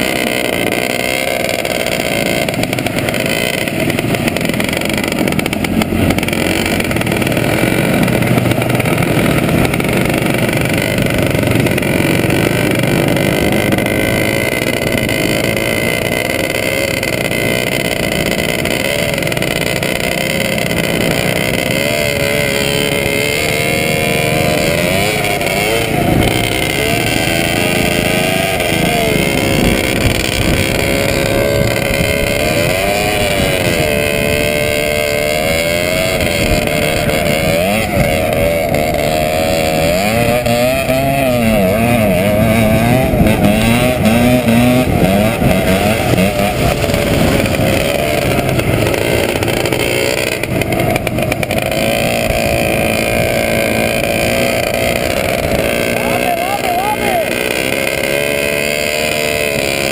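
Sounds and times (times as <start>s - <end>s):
lower engine note: 0.0s - 59.9s
motorcycle engine running hard: 0.0s - 59.9s.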